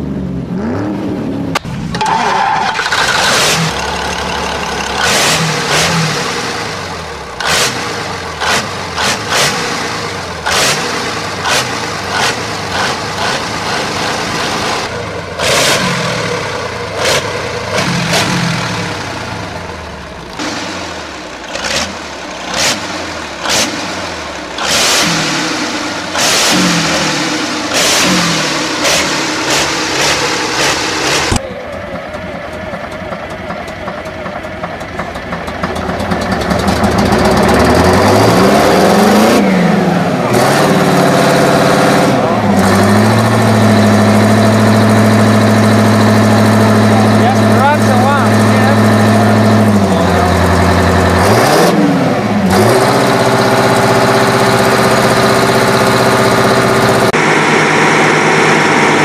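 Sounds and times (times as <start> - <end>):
engine revving with sharp blasts: 0.0 - 59.0
tractor diesel engine under load: 0.0 - 59.0.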